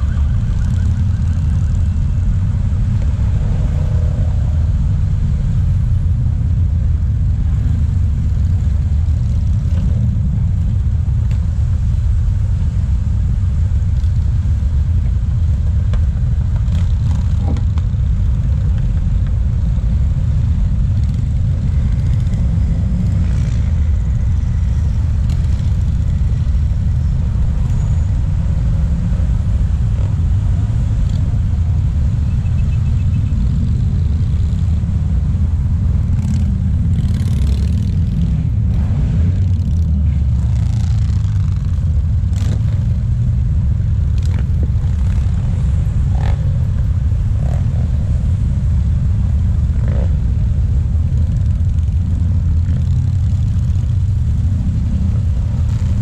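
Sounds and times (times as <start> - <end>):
heavy road traffic rumble: 0.0 - 56.0.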